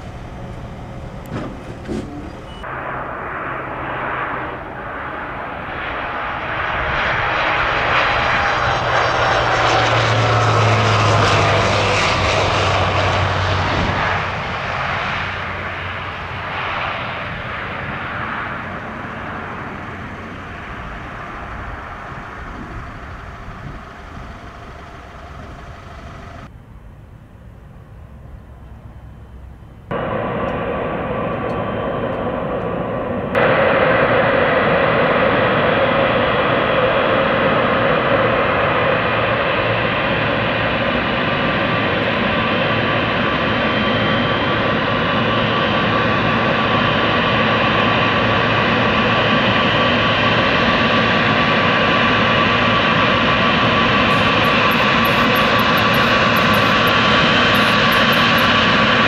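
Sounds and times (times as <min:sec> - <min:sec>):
jet engines roaring: 0:00.0 - 0:26.6, 0:27.6 - 0:59.0
jet engine whine: 0:00.0 - 0:59.0.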